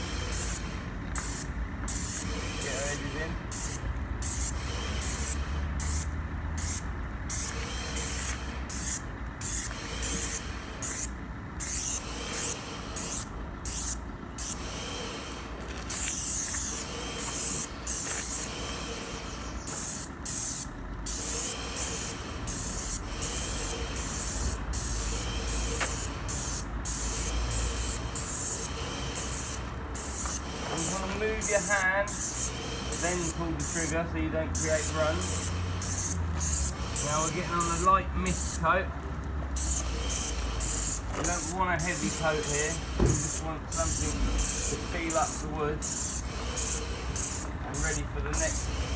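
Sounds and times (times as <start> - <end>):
paint sprayer hissing bursts: 0.0 - 38.6, 39.6 - 48.9.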